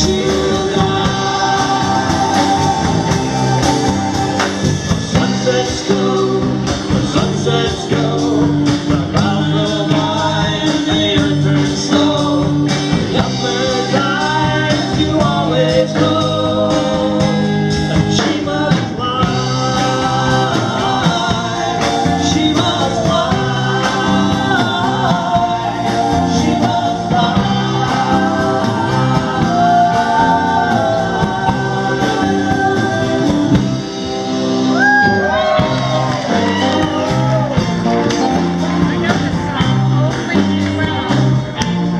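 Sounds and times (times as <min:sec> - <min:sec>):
person singing: 0:00.0 - 0:41.6
electric guitars: 0:00.0 - 0:41.9.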